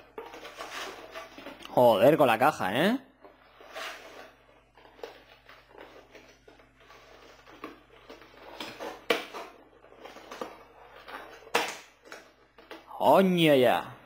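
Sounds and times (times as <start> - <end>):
packaging rustling and scraping: 0.0 - 2.0, 3.2 - 13.0.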